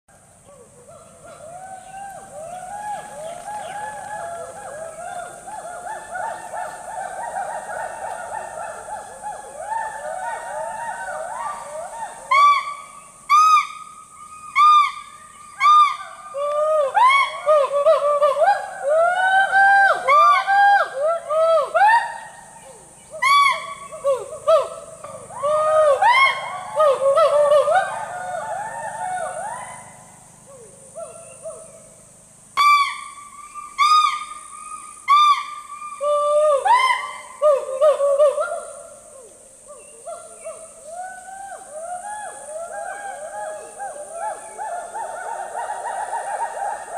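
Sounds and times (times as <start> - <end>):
gibbons hooting: 0.4 - 31.9, 32.6 - 46.9.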